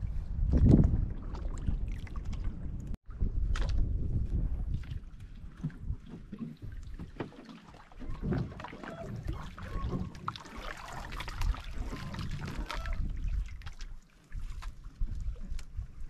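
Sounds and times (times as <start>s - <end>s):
wind buffeting microphone: 0.0s - 7.2s, 8.0s - 16.0s
water lapping against boat hull: 0.0s - 16.0s.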